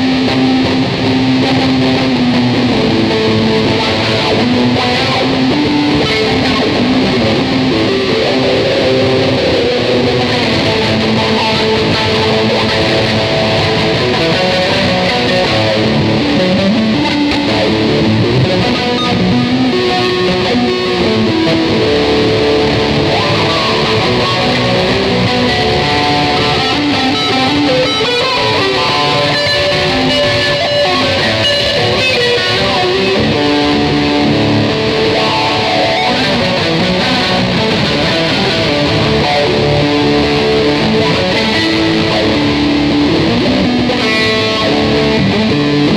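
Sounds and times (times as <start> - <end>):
electric guitar improvisation: 0.0 - 45.9.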